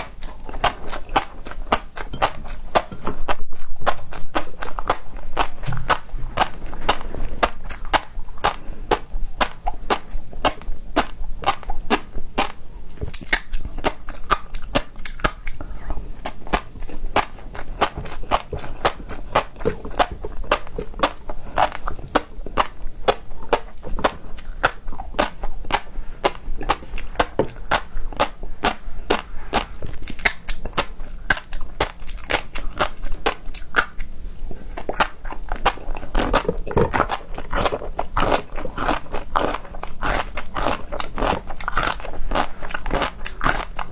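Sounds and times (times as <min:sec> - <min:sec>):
biting and chewing seafood: 0:00.0 - 0:43.9.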